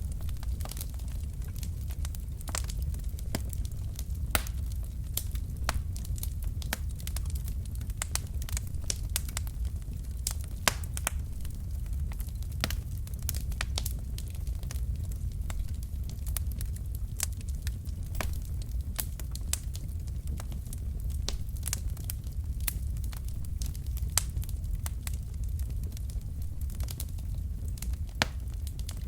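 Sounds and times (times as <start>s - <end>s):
burning logs crackling and popping: 0.0s - 29.0s
low rumble of flame: 0.0s - 29.0s.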